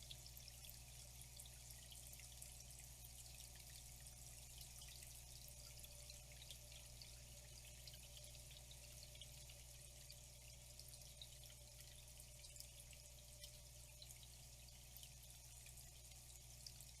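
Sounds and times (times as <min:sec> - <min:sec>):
faint flowing water: 0:00.0 - 0:17.0
low steady hum: 0:00.0 - 0:17.0
water drips and splashes: 0:00.0 - 0:17.0.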